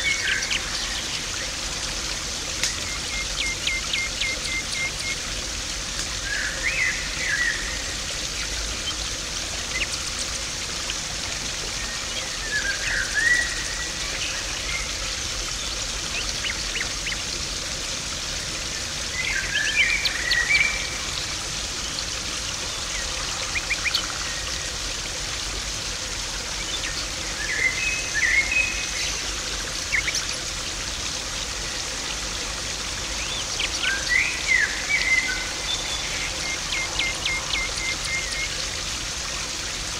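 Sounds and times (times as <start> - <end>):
pond water trickling and splashing: 0.0 - 39.9.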